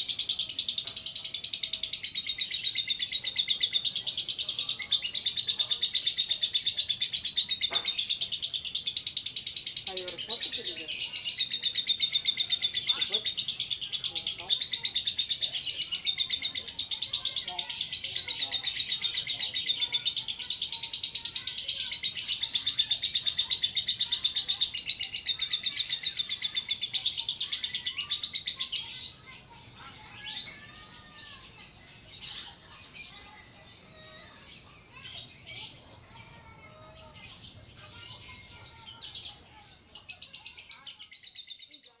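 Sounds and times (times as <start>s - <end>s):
lovebirds chattering: 0.0s - 42.0s.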